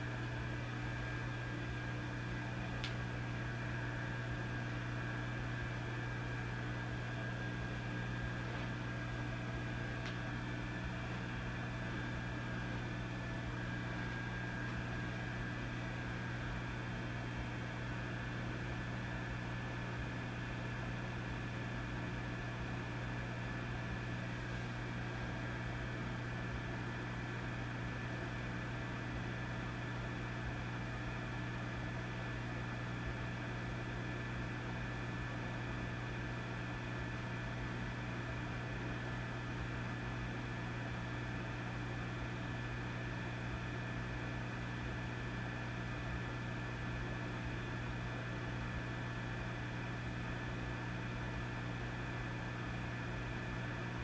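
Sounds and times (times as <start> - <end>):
amplifier electrical hum: 0.0 - 54.0.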